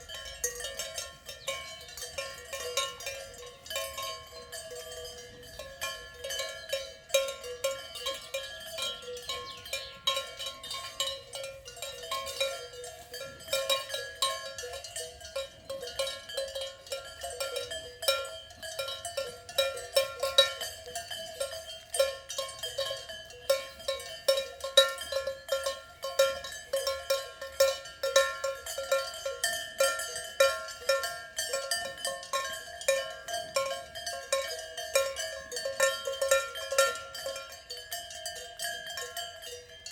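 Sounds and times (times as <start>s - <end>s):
cowbells clanking: 0.0s - 39.9s.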